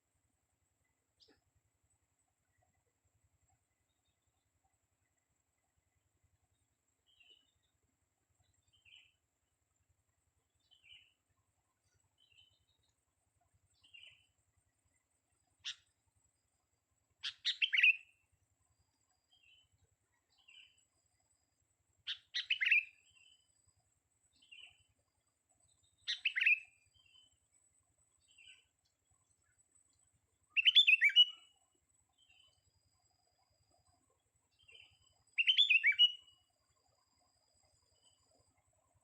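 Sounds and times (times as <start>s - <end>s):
soft bird chirps: 0.7s - 9.3s, 10.4s - 16.0s, 17.1s - 39.0s.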